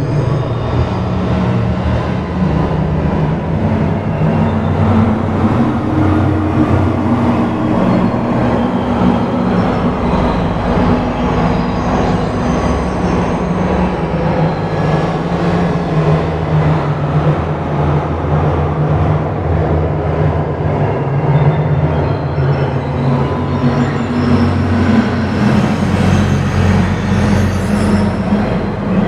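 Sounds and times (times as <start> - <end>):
electronic ambient drone: 0.0 - 29.0.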